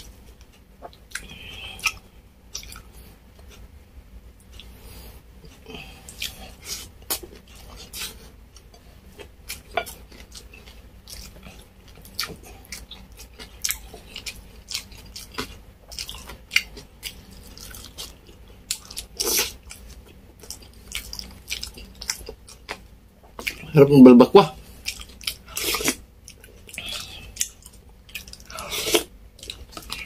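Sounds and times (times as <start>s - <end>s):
person chewing crunchy food: 0.0s - 3.6s, 4.4s - 23.7s, 24.6s - 30.0s.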